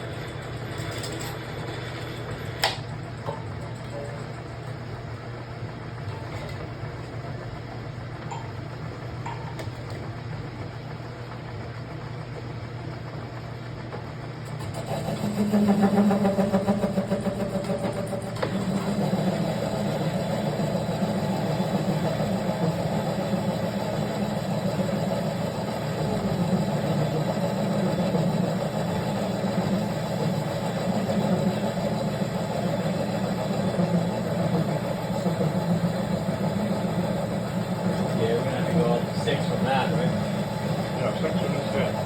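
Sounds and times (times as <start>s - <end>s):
machine droning: 0.0s - 42.0s.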